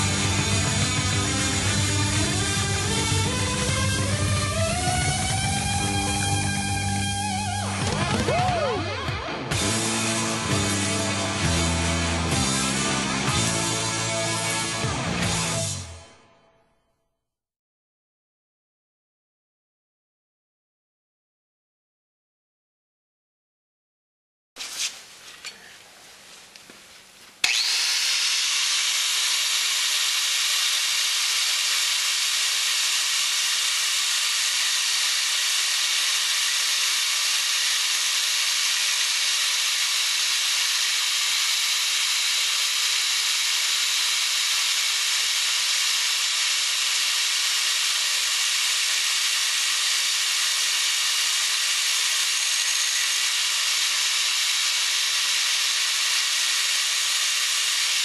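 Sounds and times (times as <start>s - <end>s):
angle grinder grinding metal: 0.0s - 15.9s, 27.4s - 58.0s.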